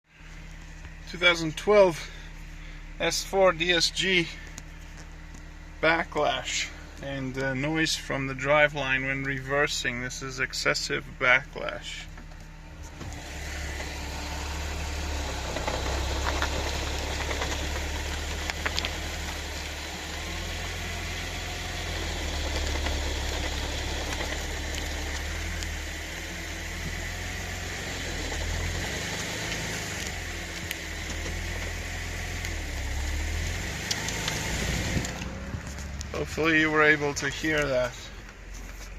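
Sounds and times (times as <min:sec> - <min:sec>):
car engine running low: 0:00.0 - 0:38.9.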